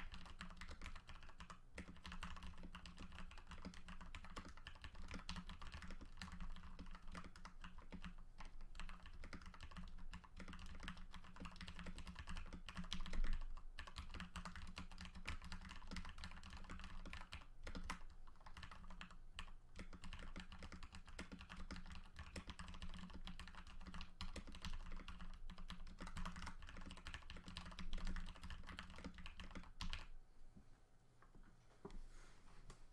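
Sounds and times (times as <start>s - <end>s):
mechanical keyboard typing: 0.0s - 30.1s.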